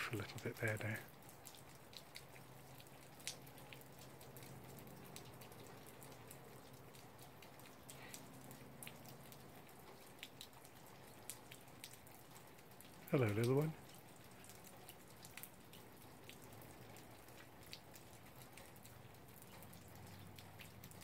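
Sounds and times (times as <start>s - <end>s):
faint clicks and ticks: 0.0s - 21.0s.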